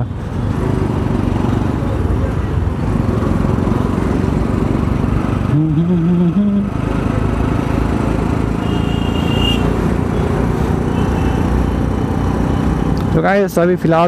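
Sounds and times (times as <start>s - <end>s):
scooter engine: 0.2s - 12.8s.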